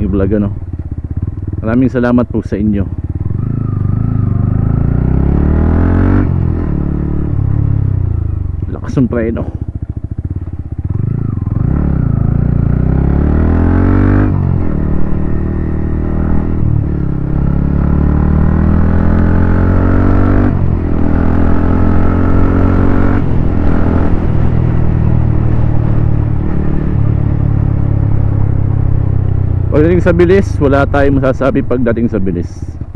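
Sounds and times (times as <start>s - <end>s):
motorcycle engine accelerating: 0.0s - 32.9s.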